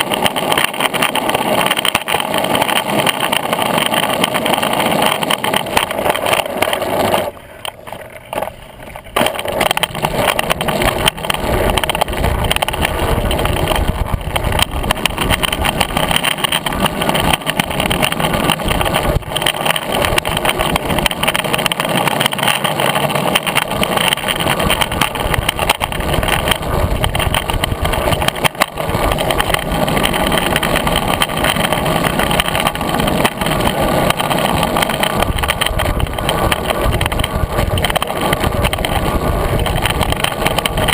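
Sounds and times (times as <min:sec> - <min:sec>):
longboard wheels rolling on pavement: 0:00.0 - 0:40.9.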